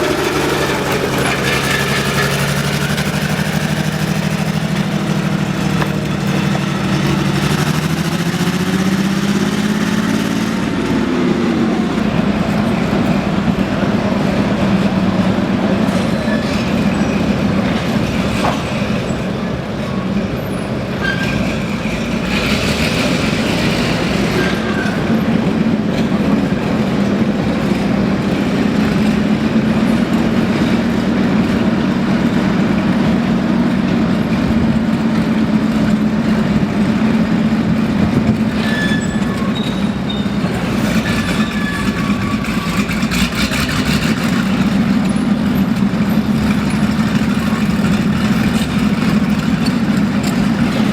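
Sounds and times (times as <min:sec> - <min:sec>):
tank engine running: 0:00.0 - 0:50.9.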